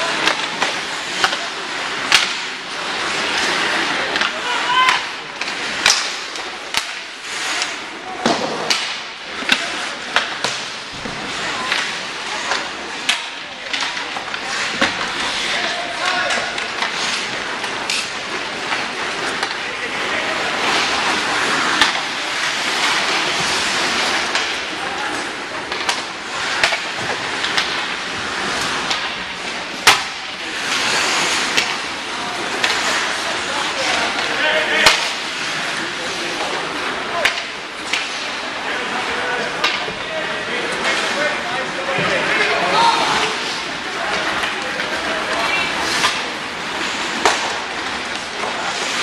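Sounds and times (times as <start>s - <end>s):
skates hissing on ice: 0.0s - 39.6s, 42.2s - 49.0s
faint arena chatter: 0.0s - 49.0s
hockey sticks and puck clacking: 0.0s - 49.0s.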